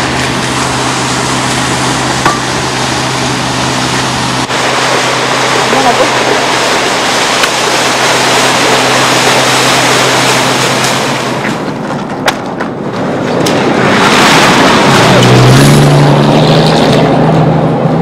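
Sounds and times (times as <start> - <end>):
steady rushing noise: 0.0 - 18.0
vehicle engine: 0.0 - 18.0.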